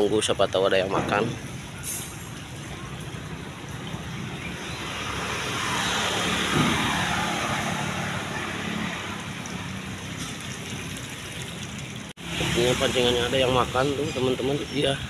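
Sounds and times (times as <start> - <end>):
motor vehicle passing: 1.6 - 14.4.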